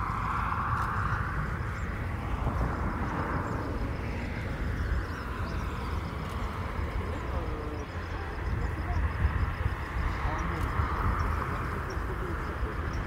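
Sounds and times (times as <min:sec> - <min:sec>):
jet engine rushing and rumbling: 0:00.0 - 0:13.0.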